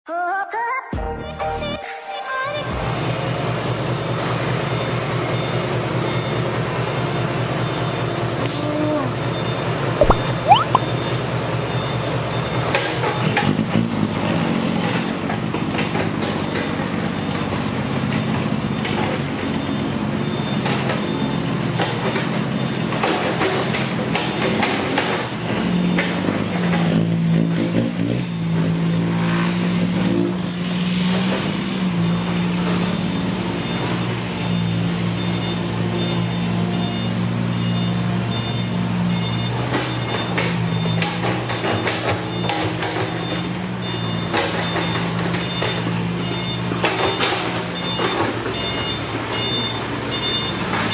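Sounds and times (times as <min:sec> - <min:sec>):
dump truck diesel engines: 0:02.8 - 0:10.0, 0:11.2 - 0:50.9.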